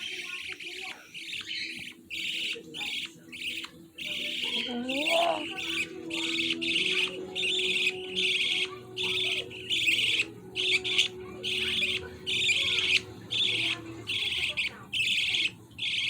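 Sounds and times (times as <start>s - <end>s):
budgie raspy calls: 0.0s - 16.0s.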